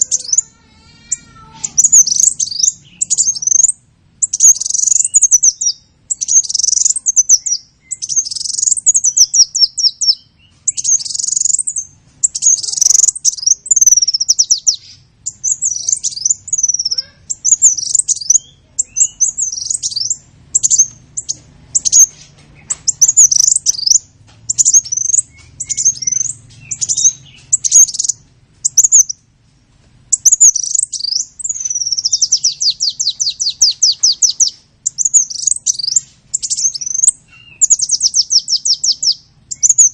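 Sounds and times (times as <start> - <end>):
small bird chirping and trilling: 0.0 - 29.3, 30.1 - 39.9.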